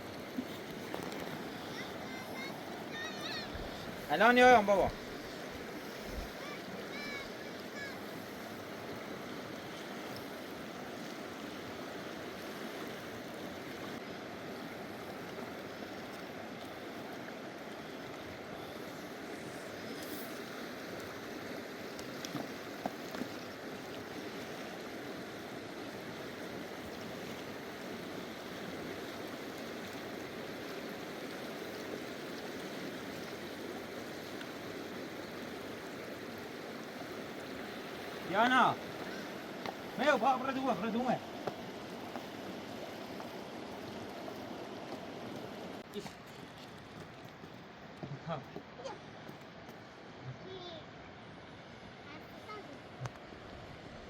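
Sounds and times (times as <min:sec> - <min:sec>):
river rushing: 0:00.0 - 0:54.0.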